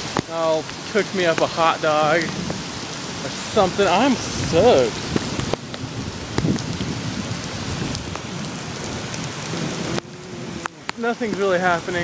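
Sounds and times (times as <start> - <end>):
raindrops tapping on camera: 0.0 - 12.0
steady rain: 0.0 - 12.0.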